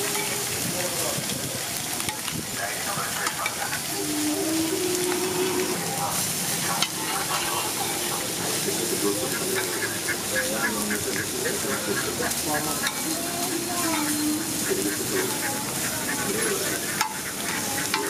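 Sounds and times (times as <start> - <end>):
fish sizzling in oil: 0.0 - 18.0
metal spatula scraping pan: 3.2 - 18.0.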